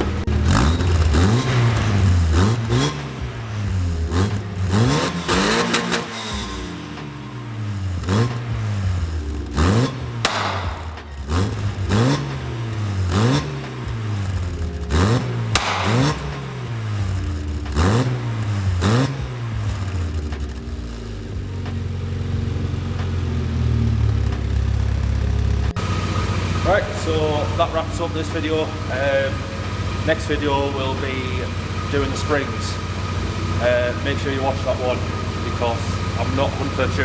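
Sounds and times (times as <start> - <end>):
car engine revving and idling: 0.0 - 37.0.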